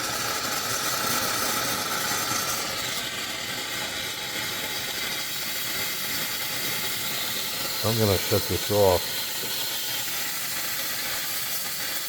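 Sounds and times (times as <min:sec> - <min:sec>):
steam wand hissing: 0:00.0 - 0:12.0.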